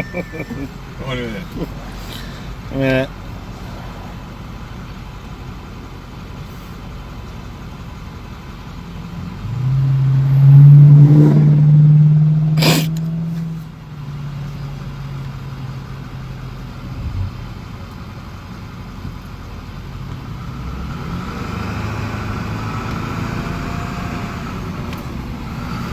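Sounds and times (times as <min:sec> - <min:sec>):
heavy engine drone: 0:00.0 - 0:25.9
road traffic: 0:00.0 - 0:25.9.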